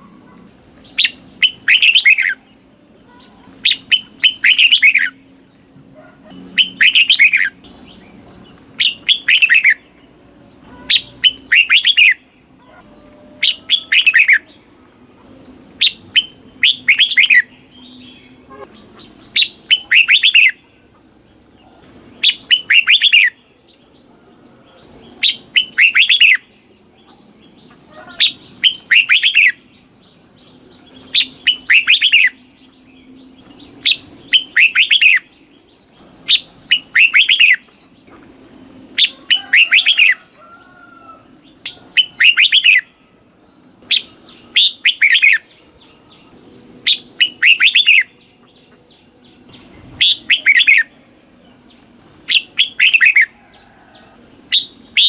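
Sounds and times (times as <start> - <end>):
bird whistled song: 0.0 - 5.4, 6.0 - 10.0, 10.7 - 21.0, 21.9 - 23.8, 25.1 - 38.2, 38.8 - 51.0, 52.2 - 53.6, 54.4 - 55.0.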